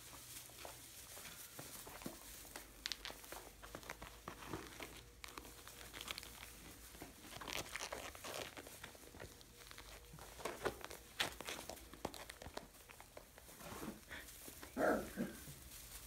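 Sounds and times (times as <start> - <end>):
straw rustling and crunching: 0.0 - 16.0.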